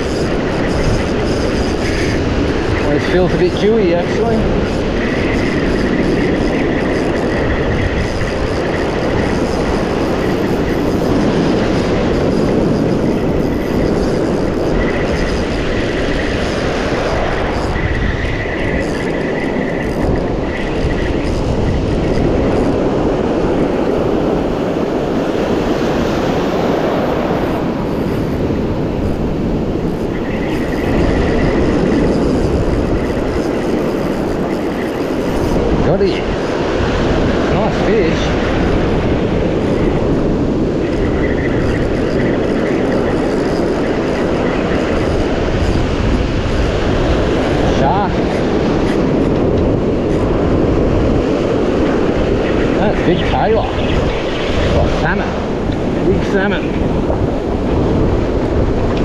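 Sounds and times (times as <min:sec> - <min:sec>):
breaking surf: 0:00.0 - 0:59.0
wind buffeting microphone: 0:00.0 - 0:59.0.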